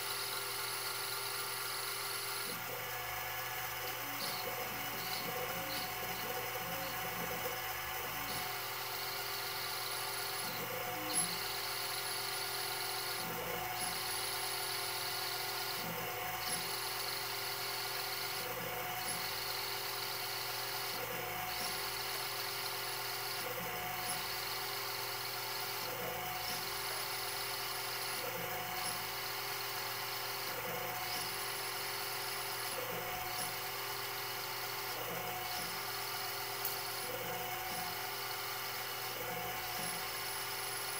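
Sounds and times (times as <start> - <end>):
lathe motor whine: 0.0 - 40.9.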